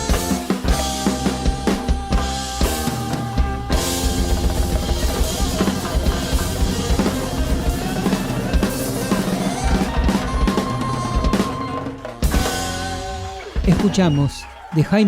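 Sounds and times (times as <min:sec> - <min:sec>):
bass and other instruments: 0:00.0 - 0:14.5
drum kit and hand drums beating: 0:00.0 - 0:14.8.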